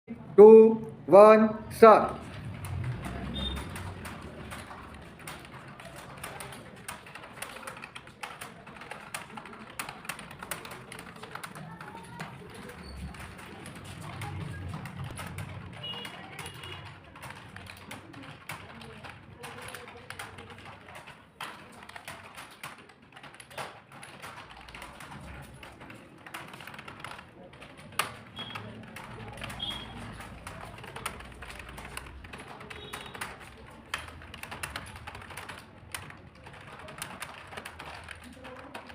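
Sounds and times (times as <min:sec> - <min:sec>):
keyboard keys clicking: 0:01.8 - 0:38.9.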